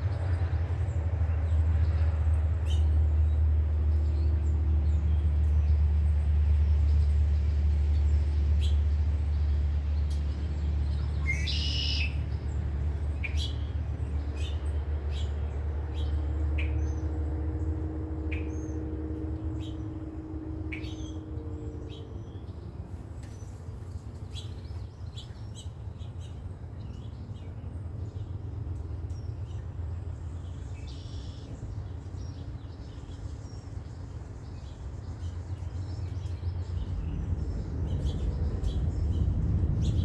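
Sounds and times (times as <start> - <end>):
steady low rumble: 0.0 - 11.4, 12.1 - 40.0
wild birds chirping: 0.0 - 40.0.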